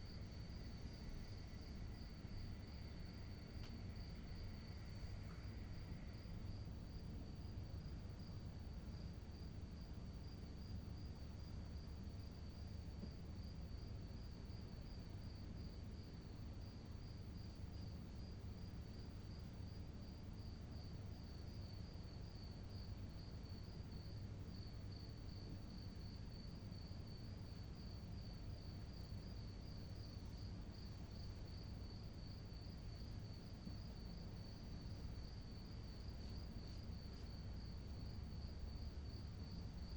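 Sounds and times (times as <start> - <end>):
cricket chirping: 0.0 - 39.9
faint low background rumble: 0.0 - 39.9.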